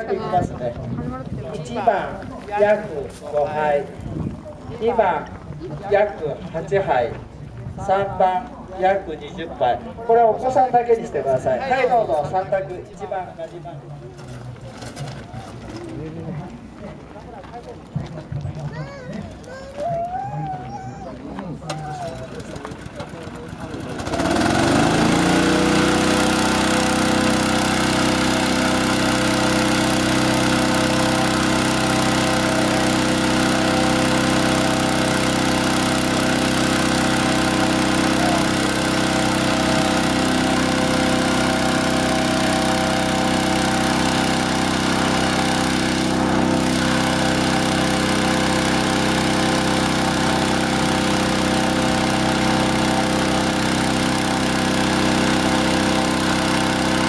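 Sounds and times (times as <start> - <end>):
petrol-engine fan running: 0.0 - 57.0.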